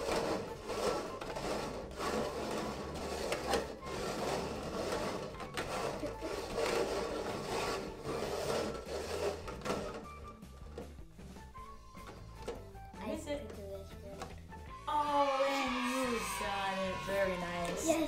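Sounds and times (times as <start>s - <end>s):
plastic cups scraping on table: 0.0s - 12.8s, 15.7s - 18.0s.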